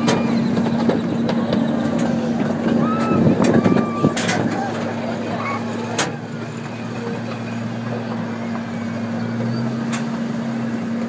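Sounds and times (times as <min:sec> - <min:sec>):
train engine hum: 0:00.0 - 0:11.0.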